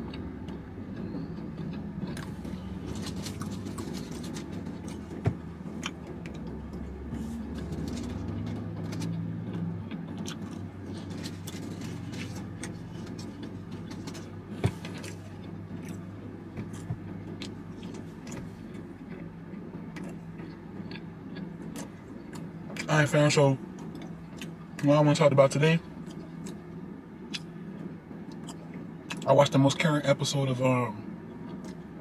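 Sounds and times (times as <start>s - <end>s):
chewing and mouth clicks: 0.0s - 22.9s, 23.7s - 24.8s, 26.0s - 26.6s, 27.2s - 29.3s, 31.4s - 31.9s
car engine idling: 0.0s - 32.0s.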